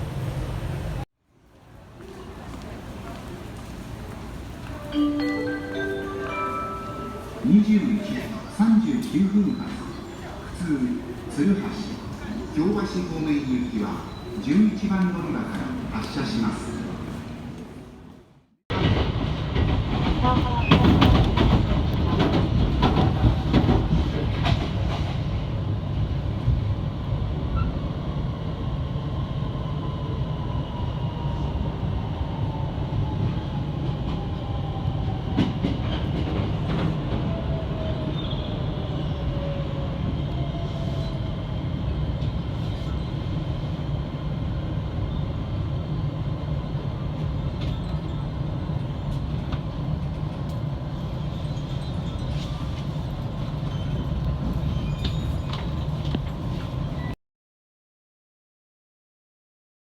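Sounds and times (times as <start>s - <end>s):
train rumble and wheel clatter: 0.0s - 57.2s.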